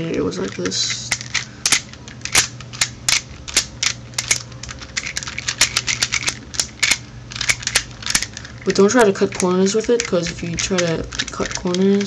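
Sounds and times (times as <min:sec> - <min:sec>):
plastic puzzle clicking: 0:00.3 - 0:12.0.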